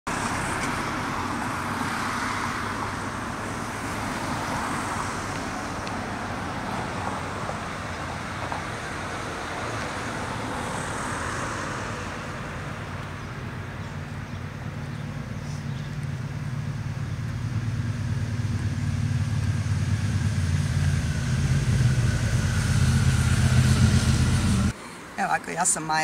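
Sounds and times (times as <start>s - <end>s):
cars passing on a street: 0.1s - 26.0s.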